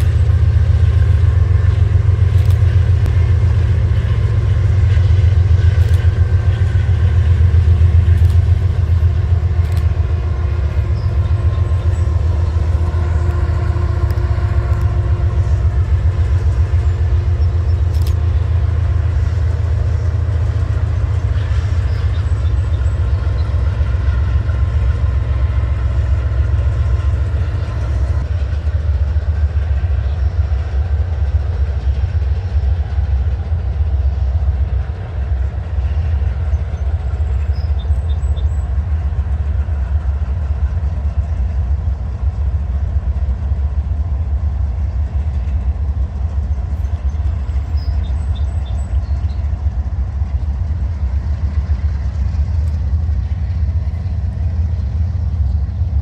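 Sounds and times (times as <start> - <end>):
freight train rumbling on rails: 0.0 - 56.0.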